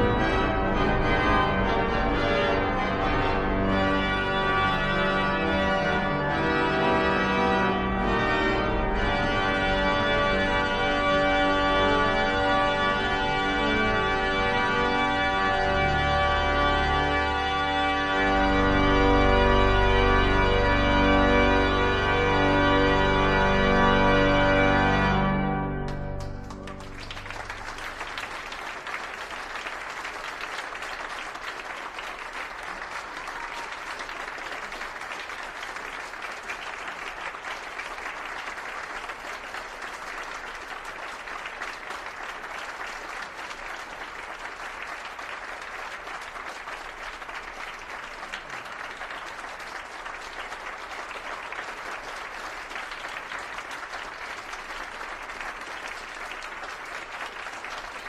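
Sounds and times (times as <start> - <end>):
audience applauding: 0.0 - 25.2, 25.8 - 58.0.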